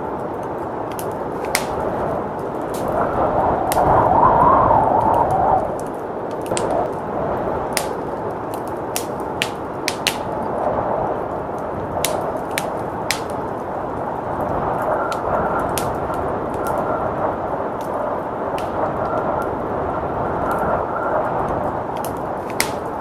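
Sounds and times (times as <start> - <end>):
blizzard wind rushing: 0.0 - 23.0
wood fire crackling and popping: 0.0 - 23.0.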